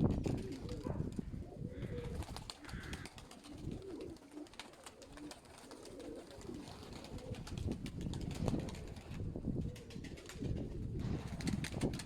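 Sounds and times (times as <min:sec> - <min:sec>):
pigeons cooing: 0:00.0 - 0:11.8.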